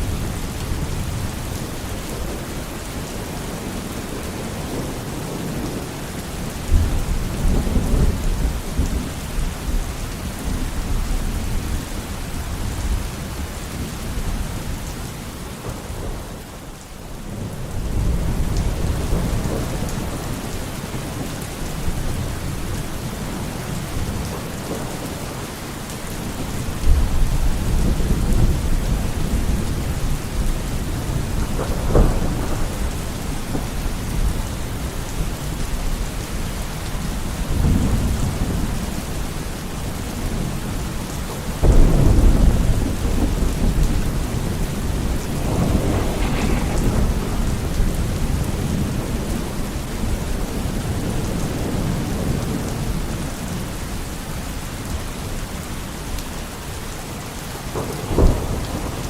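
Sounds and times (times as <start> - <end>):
rolling thunder rumbles: 0.0 - 16.6, 17.3 - 54.0, 57.7 - 59.0
heavy rain hissing: 0.0 - 59.0.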